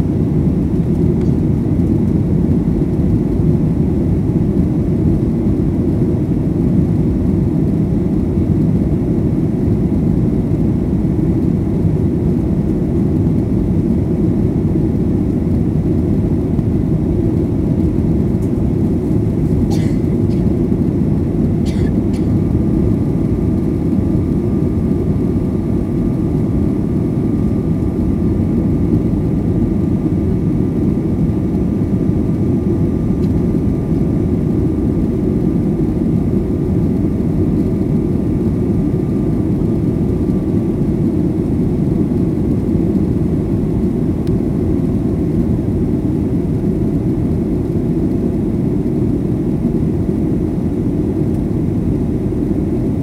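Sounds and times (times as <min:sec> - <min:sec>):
jet engine and rushing air in cabin: 0:00.0 - 0:53.0.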